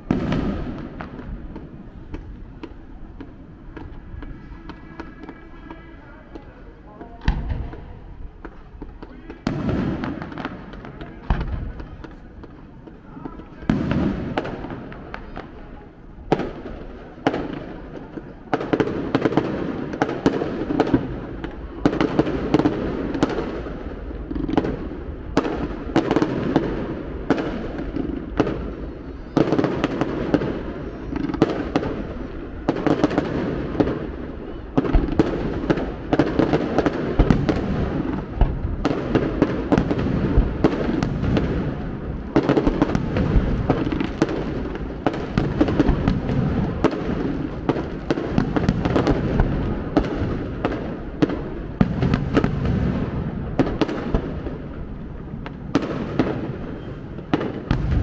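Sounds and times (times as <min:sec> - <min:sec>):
fireworks bursting with sharp bangs: 0:00.0 - 0:58.0.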